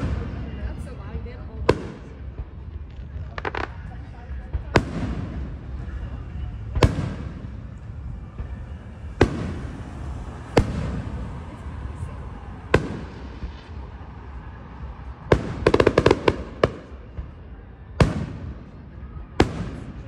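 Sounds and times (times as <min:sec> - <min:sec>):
fireworks booming: 0:00.0 - 0:20.0
rattle of small firework bangs: 0:01.6 - 0:18.7, 0:19.4 - 0:20.0.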